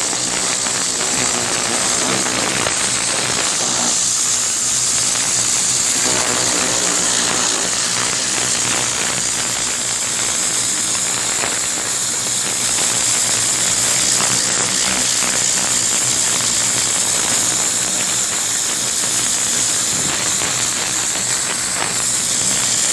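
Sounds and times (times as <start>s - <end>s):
pressure washer motor hum: 0.0s - 22.9s
pressure washer water jet hissing: 0.0s - 22.9s.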